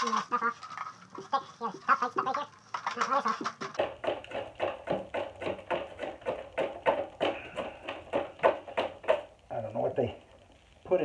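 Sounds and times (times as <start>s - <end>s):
wooden stick knocking and scraping: 0.0s - 9.5s.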